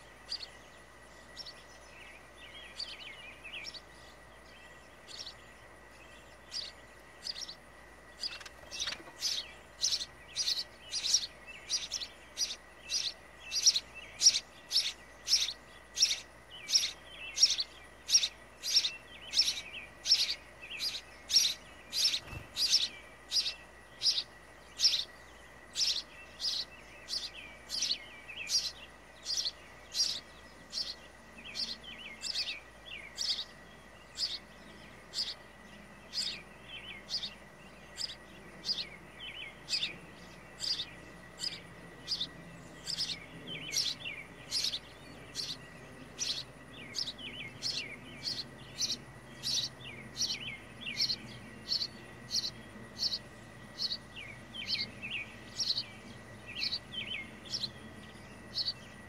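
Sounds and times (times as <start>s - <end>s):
small songbird chirping: 0.0s - 59.0s.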